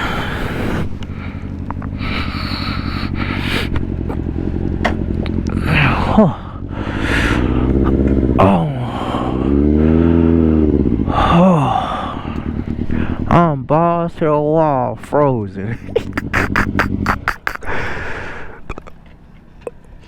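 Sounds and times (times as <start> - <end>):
motorcycle engine revving: 0.0 - 13.5, 15.7 - 20.0
wind and road noise: 0.0 - 20.0.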